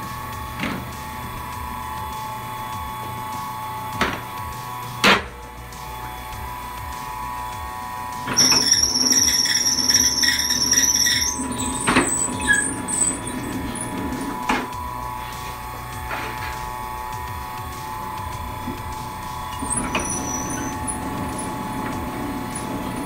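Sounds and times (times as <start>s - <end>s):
loud high squeal: 0.0s - 23.0s
noodle machine humming: 0.0s - 23.0s.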